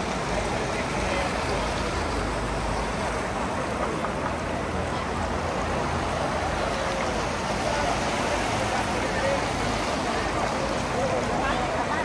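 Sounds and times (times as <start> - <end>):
faint indistinct voices: 0.0 - 12.0
noisy background ambience: 0.0 - 12.0.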